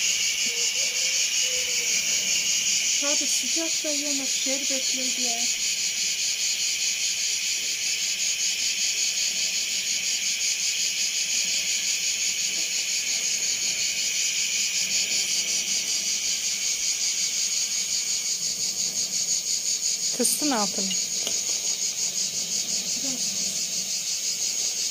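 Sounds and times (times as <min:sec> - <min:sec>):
insects chirping: 0:00.0 - 0:24.9.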